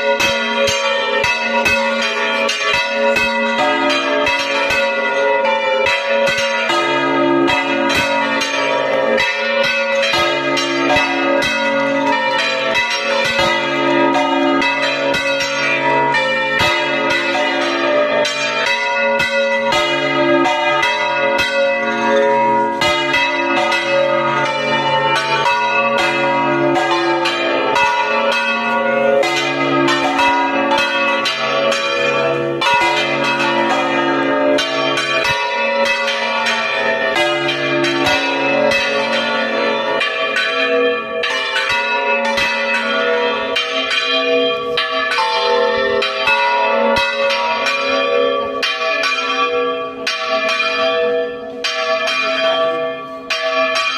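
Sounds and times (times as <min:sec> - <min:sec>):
church bells ringing: 0:00.0 - 0:53.9.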